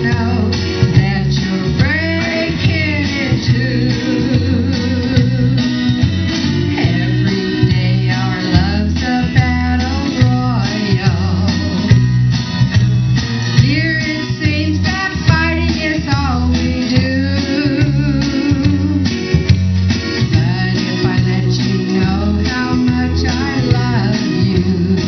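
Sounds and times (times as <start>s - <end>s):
woman singing into microphone: 0.0s - 11.9s, 13.6s - 19.2s, 20.2s - 25.0s
backing track with guitar and bass: 0.0s - 25.0s.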